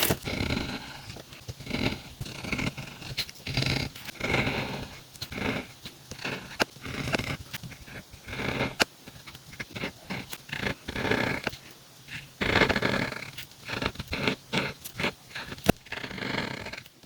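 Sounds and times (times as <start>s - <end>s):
pen scratching on paper: 0.0s - 17.0s.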